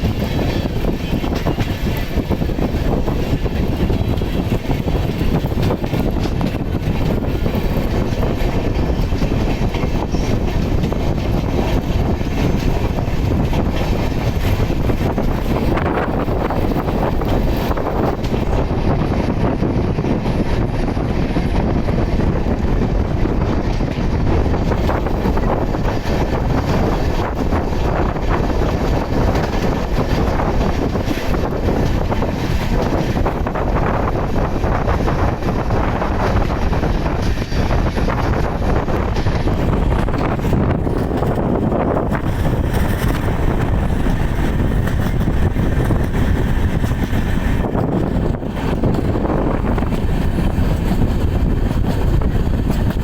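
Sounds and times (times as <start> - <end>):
moving train rumble: 0.0 - 53.0
wind buffeting microphone: 0.0 - 53.0.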